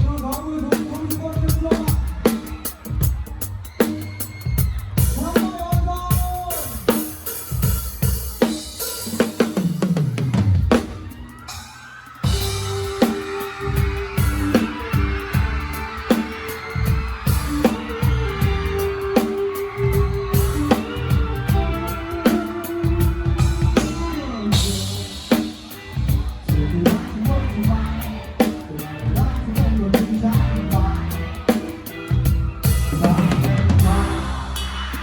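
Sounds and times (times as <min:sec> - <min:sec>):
drum kit playing: 0:00.0 - 0:35.0
full band playing: 0:00.0 - 0:35.0.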